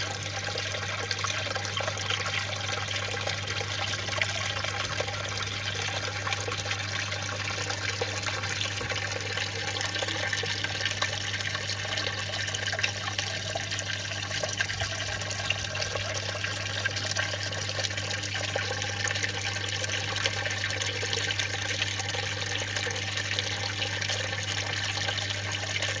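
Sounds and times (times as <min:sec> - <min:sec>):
water trickling and splashing: 0:00.0 - 0:26.0.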